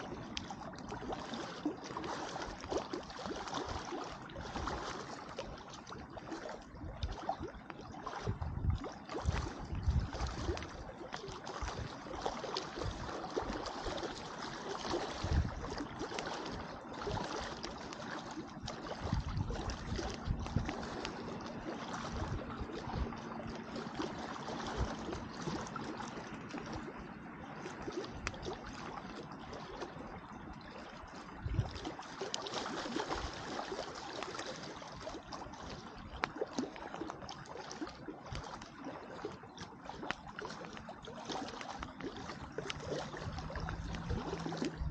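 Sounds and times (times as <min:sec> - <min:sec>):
lake water lapping at shore: 0:00.0 - 0:44.9.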